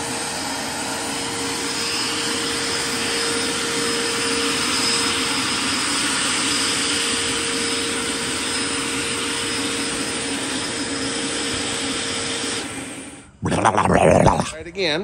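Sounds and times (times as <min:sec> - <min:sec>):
gas turbine high whine: 0:00.0 - 0:15.0.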